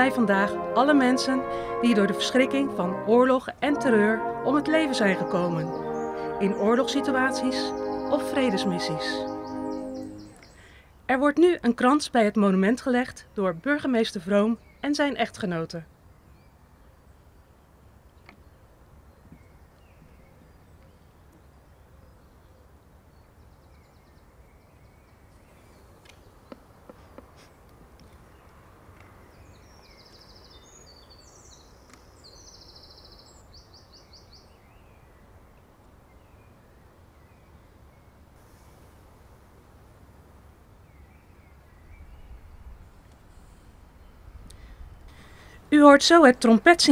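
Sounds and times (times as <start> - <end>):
faint birdsong: 3.8 - 11.3, 12.6 - 46.9.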